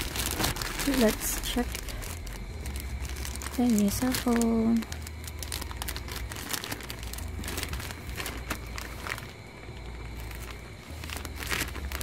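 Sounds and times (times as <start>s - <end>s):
low rumble: 0.0s - 12.0s
plastic pouch crinkling: 0.0s - 12.0s.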